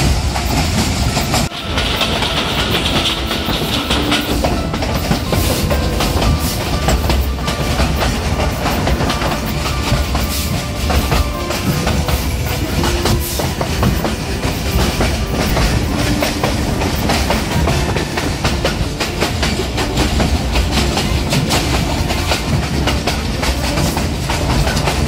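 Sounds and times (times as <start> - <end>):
train rumbling on track: 0.0 - 25.0
wheels clacking over rail joints: 0.0 - 25.0.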